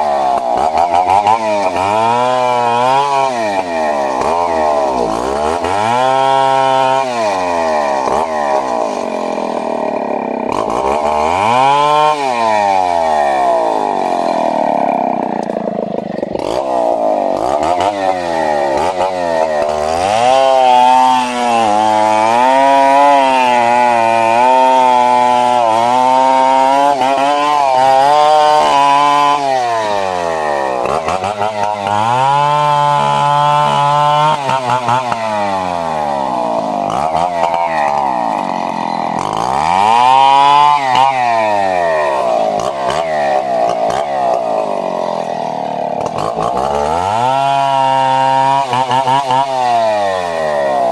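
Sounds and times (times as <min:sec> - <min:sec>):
chainsaw cutting wood: 0:00.0 - 0:50.9
two-stroke chainsaw revving: 0:00.0 - 0:50.9.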